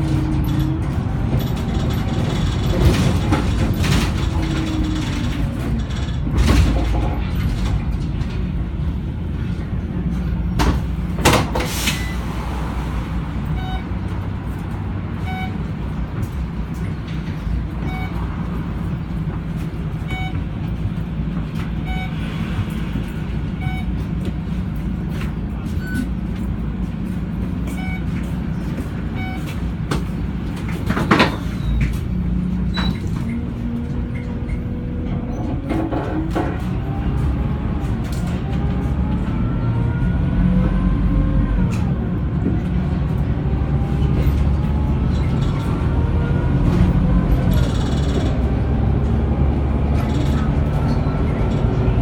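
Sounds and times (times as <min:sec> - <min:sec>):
bus diesel engine running: 0:00.0 - 0:52.0
knocks and rattles from bus body: 0:00.0 - 0:52.0.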